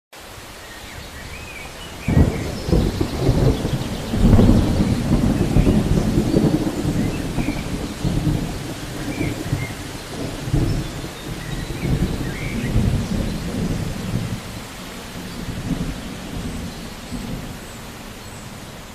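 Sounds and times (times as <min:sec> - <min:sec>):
steady rain falling: 0:00.1 - 0:18.9
thunder rumbling: 0:00.9 - 0:18.9.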